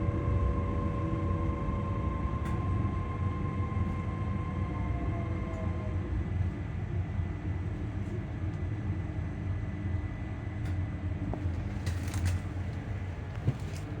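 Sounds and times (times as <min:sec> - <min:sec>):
train electrical hum: 0:00.0 - 0:14.0.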